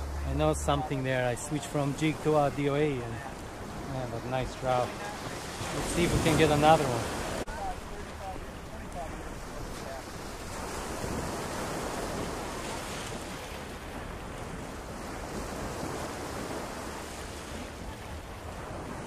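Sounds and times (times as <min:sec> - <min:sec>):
surf washing over sand and rocks: 0:00.0 - 0:19.0.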